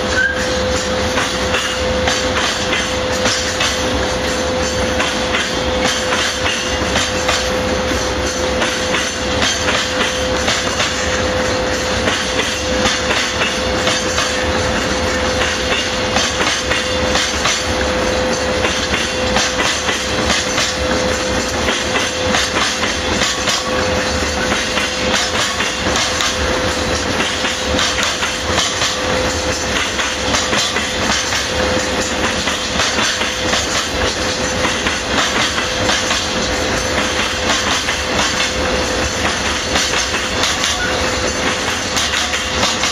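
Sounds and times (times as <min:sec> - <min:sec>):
train wheels clickety-clack: 0:00.0 - 0:42.9.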